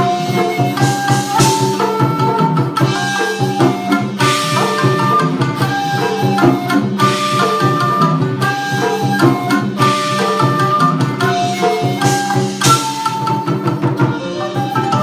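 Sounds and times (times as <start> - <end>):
bamboo flute melody: 0.0 - 15.0
koto: 0.0 - 15.0
plucked shamisen: 0.0 - 15.0
taiko drums beating: 0.0 - 15.0.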